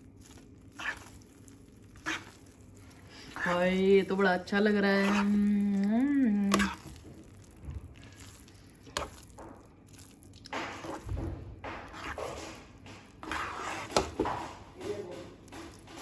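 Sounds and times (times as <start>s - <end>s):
spatula stirring sticky food in pan: 0.0s - 16.0s.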